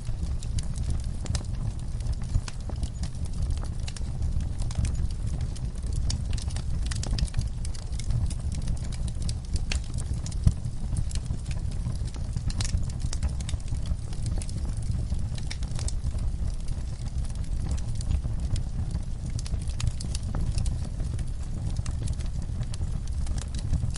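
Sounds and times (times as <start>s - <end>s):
low fire rumble: 0.0s - 23.9s
wood fire crackling and popping: 0.0s - 23.9s.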